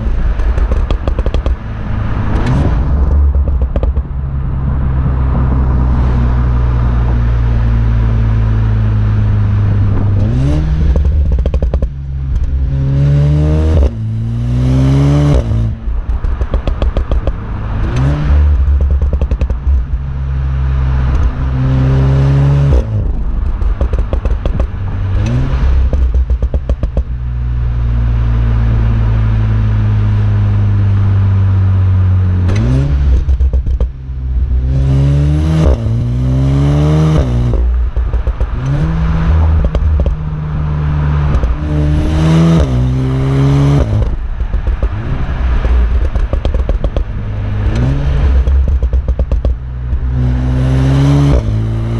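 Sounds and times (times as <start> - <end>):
car exhaust drone and revving: 0.0 - 51.9
exhaust crackling and popping: 0.0 - 51.9.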